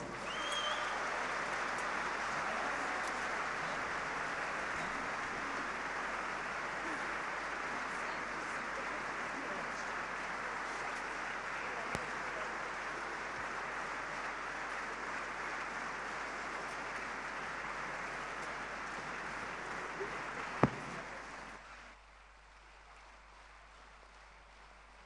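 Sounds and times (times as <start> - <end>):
audience applauding: 0.0 - 21.8.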